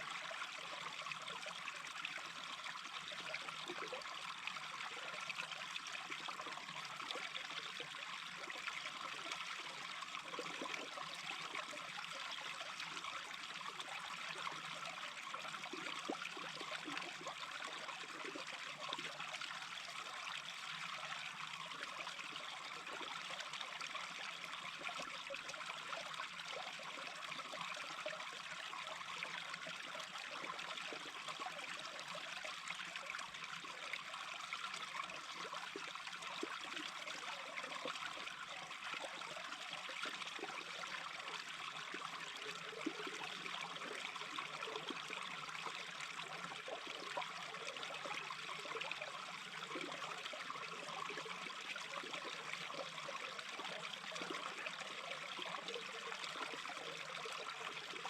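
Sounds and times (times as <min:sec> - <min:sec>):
stream trickling over stones: 0:00.0 - 0:58.0.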